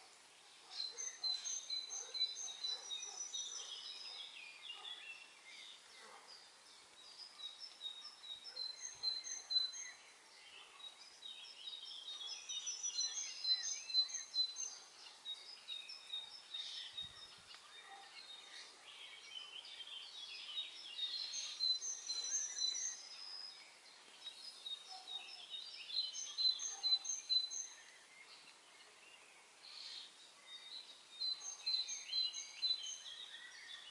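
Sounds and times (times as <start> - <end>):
faint background hiss: 0.0 - 33.9
songbirds chirping and trilling: 0.0 - 33.9.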